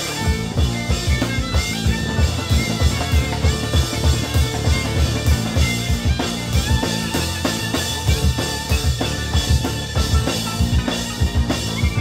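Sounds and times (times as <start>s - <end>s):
drums beating: 0.0s - 12.0s
live band playing: 0.0s - 12.0s.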